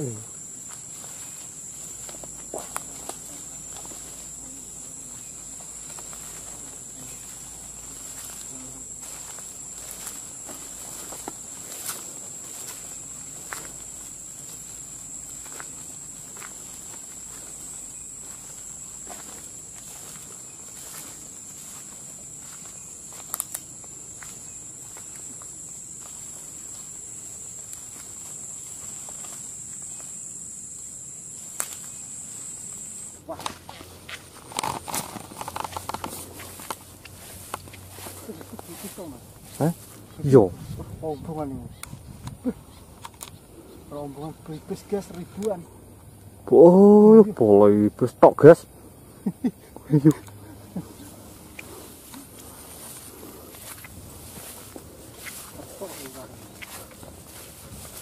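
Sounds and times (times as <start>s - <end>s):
footsteps in grass: 0.0s - 46.2s, 49.9s - 58.0s
insects buzzing: 0.0s - 58.0s.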